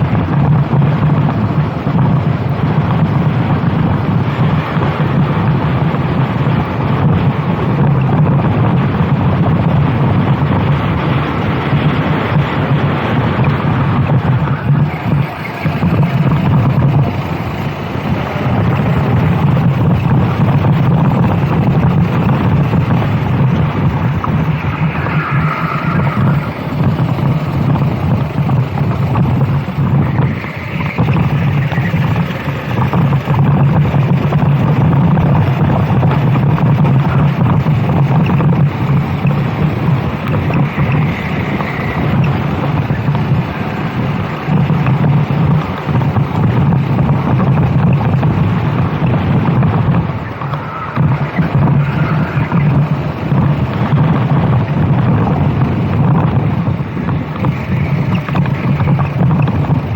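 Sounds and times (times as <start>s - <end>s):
go-kart engine running hard: 0.0s - 59.9s
wind buffeting microphone: 0.0s - 59.9s.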